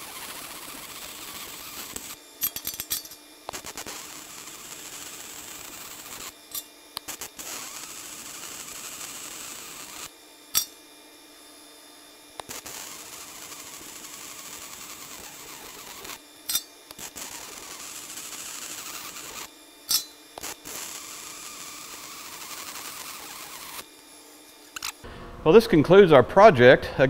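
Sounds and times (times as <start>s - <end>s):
welding arc crackling and hissing: 0.0s - 2.3s, 3.4s - 10.8s, 12.3s - 25.0s.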